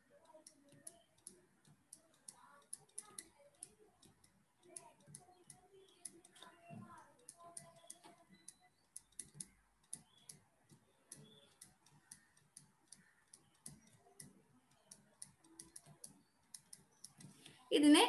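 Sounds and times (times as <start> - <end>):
stylus tapping on screen: 0.2 - 17.6.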